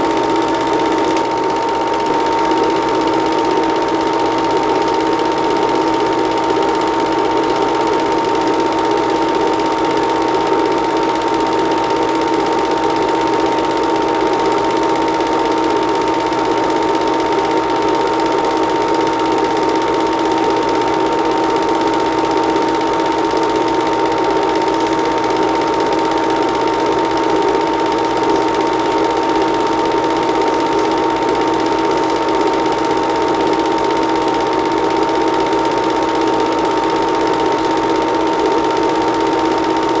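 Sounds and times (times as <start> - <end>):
film projector whirring and clattering: 0.0 - 40.0.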